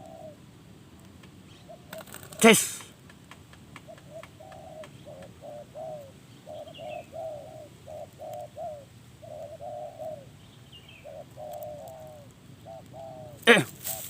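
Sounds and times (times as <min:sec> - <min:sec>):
dove cooing: 0:00.0 - 0:00.6, 0:01.5 - 0:03.0, 0:03.8 - 0:14.0.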